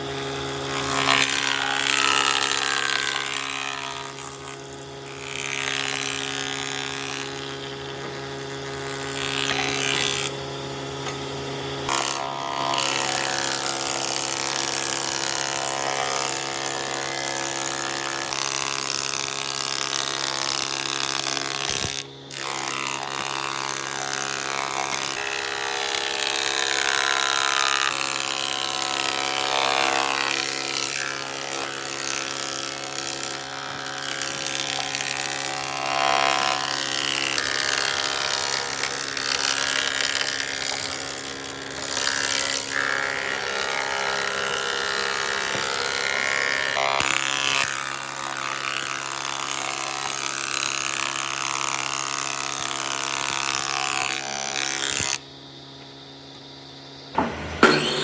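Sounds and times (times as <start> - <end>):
power tool cutting wood: 0.0 - 58.0.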